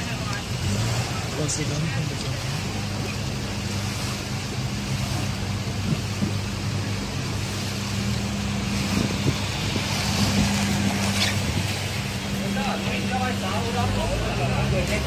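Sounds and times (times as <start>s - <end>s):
car engine idling: 0.0s - 15.0s
car moving through water: 0.0s - 15.0s
flowing floodwater: 0.0s - 15.0s
rain: 0.0s - 15.0s.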